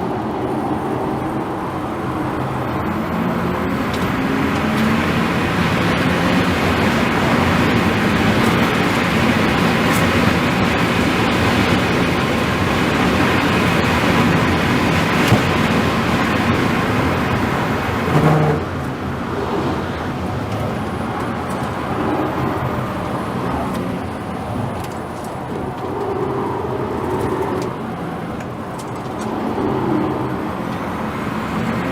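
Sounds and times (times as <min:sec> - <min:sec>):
car road and wind noise: 0:00.0 - 0:31.9.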